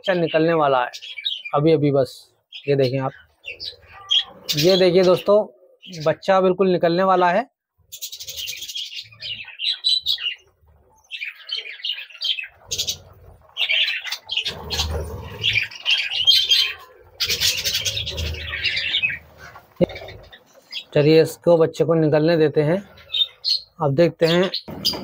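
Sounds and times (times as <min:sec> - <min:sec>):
budgerigars chirping: 0:00.1 - 0:01.6, 0:02.4 - 0:06.2, 0:07.8 - 0:21.4, 0:22.6 - 0:25.0.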